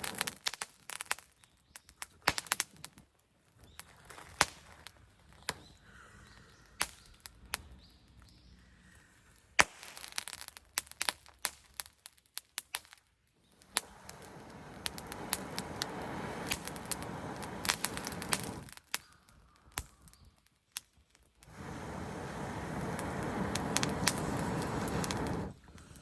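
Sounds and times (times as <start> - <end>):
campfire wood crackling: 0.0 - 26.0.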